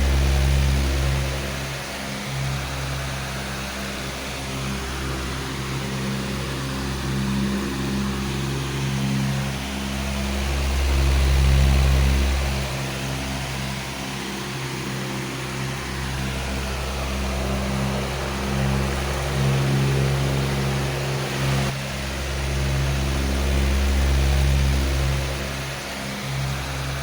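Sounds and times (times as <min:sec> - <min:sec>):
electric fan air rush: 0:00.0 - 0:27.0
fan motor hum: 0:00.0 - 0:27.0.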